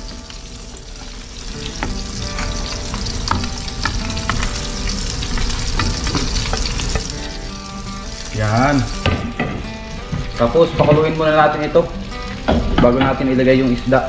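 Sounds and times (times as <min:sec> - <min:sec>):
fish frying in hot oil: 0:00.0 - 0:14.0
water boiling in a pot: 0:00.0 - 0:14.0.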